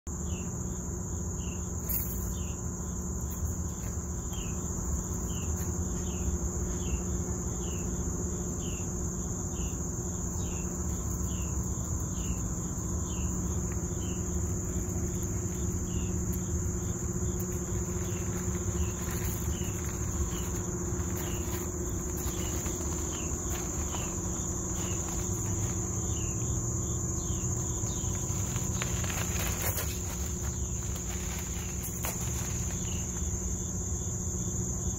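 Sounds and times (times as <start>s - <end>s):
insect buzzing: 0.1s - 34.9s
low hum: 2.1s - 34.9s.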